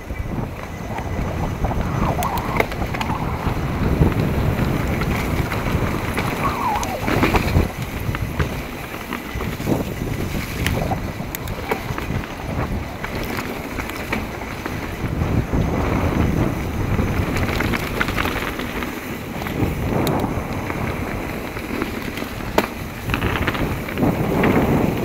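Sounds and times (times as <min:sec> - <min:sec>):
bike tyres on dirt trail: 0:00.0 - 0:25.0
sharp bike clicks: 0:00.0 - 0:25.0
wind buffeting microphone: 0:00.0 - 0:25.0.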